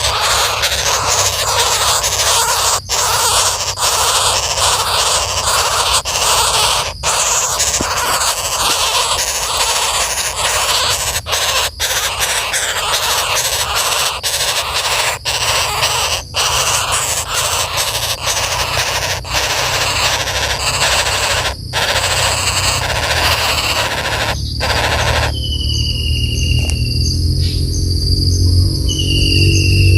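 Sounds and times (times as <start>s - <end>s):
woodpeckers harsh rasping calls: 0.0s - 26.4s.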